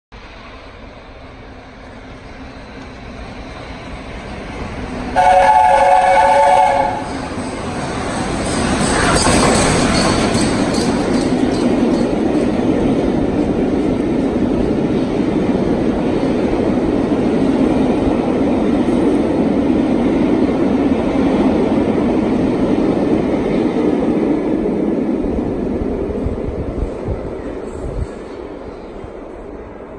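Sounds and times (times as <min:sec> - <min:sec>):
train wheels rumbling on rails: 0:00.1 - 0:29.9.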